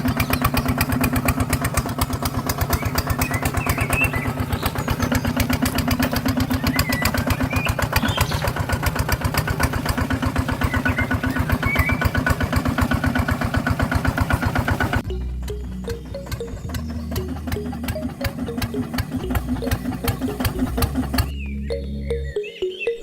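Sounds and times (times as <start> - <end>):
small tractor engine chugging: 0.0 - 22.3.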